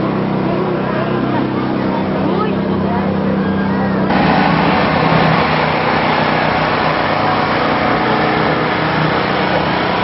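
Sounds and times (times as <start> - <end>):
generator engine droning: 0.0 - 10.0.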